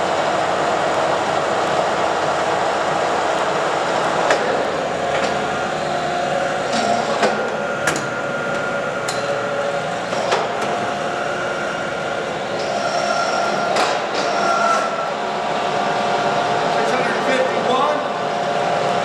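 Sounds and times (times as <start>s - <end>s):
lathe gear whine: 0.0s - 19.0s.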